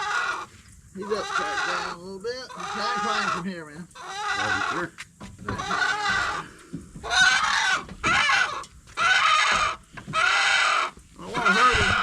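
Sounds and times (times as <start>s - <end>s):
rooster squawking in distress: 0.0s - 0.5s, 1.1s - 3.4s, 4.0s - 4.9s, 5.5s - 12.0s.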